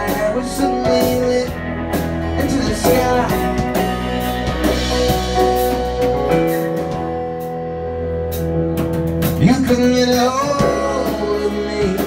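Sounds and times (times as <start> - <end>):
drum kit beat: 0.0 - 12.0
electric bass: 0.0 - 12.0
electric guitar: 0.0 - 12.0
keyboard: 0.0 - 12.0.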